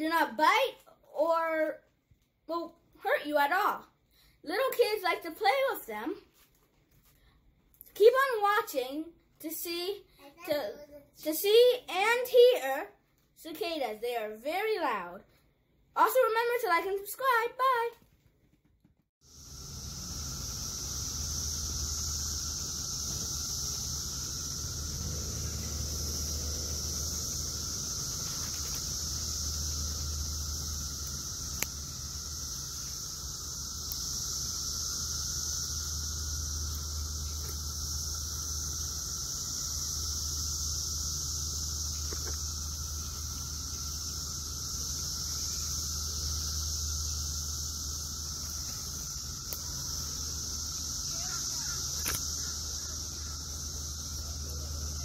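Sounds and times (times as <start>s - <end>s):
cicadas chorusing: 3.0s - 6.2s, 7.8s - 12.8s, 16.0s - 17.9s, 19.2s - 55.0s.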